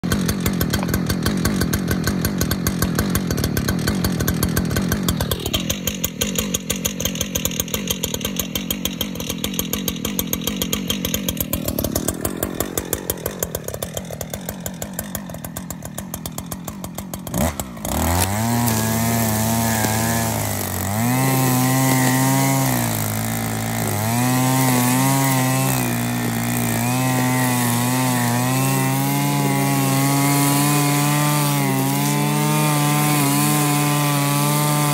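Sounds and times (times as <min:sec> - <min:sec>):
brushcutter engine revving: 0:00.0 - 0:34.9.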